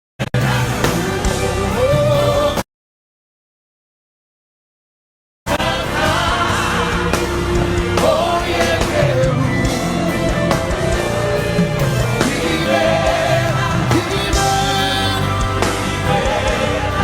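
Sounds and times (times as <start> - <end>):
drums: 0.2 - 2.6, 5.5 - 17.0
worship band playing: 0.4 - 2.6, 5.5 - 17.0.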